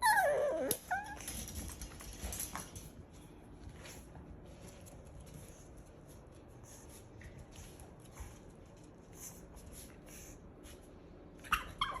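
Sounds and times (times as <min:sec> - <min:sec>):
puppy rustling and scuffing: 0:00.8 - 0:11.1.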